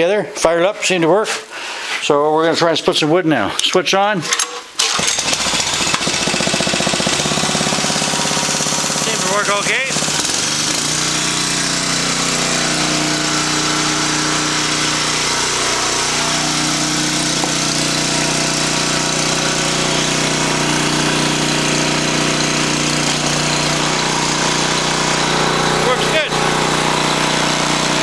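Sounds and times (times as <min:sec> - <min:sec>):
engine running steadily: 0:04.8 - 0:28.0.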